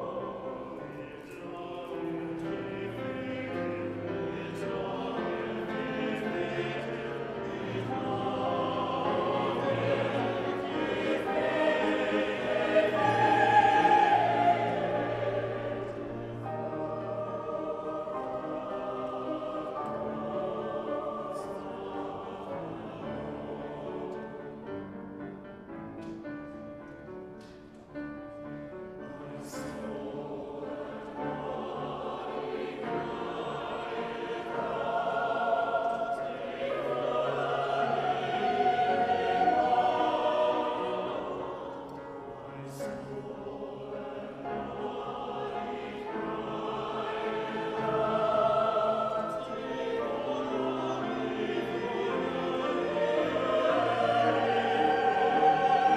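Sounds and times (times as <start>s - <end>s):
choir singing sustained chords: 0.0s - 55.9s.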